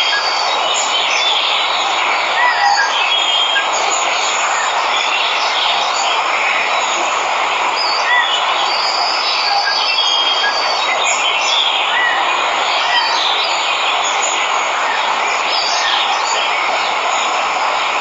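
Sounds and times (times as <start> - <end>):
birds chirping: 0.0 - 18.0
waterfall rushing: 0.0 - 18.0.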